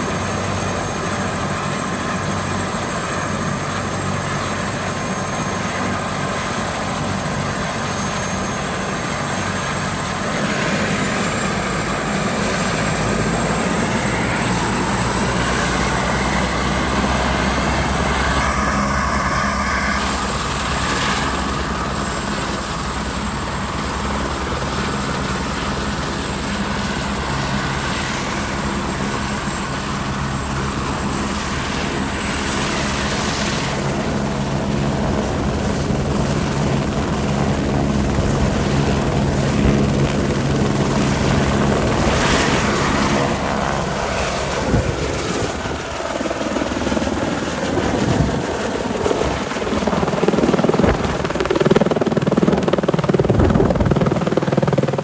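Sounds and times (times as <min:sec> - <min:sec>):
helicopter turbine and rotor: 0:00.0 - 0:55.0.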